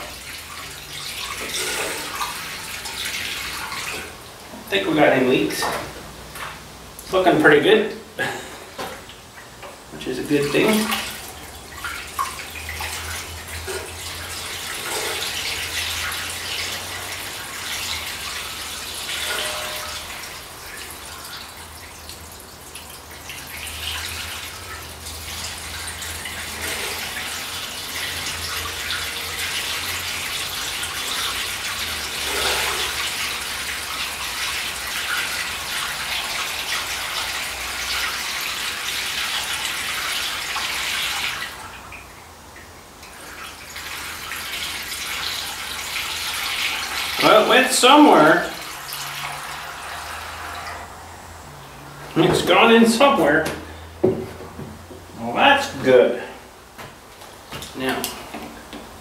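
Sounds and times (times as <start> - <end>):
liquid pouring into radiator: 0.0 - 7.7, 8.7 - 55.9.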